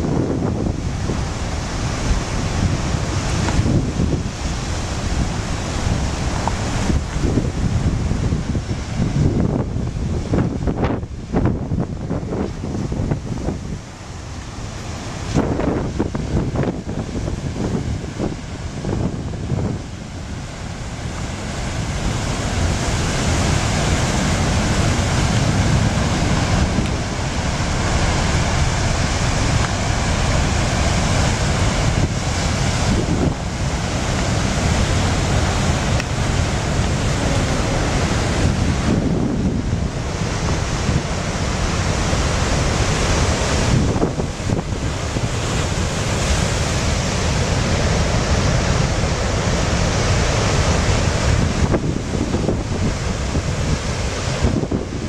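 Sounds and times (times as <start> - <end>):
heavy surf breaking on rocks: 0.0 - 55.0
wind buffeting microphone: 0.0 - 55.0.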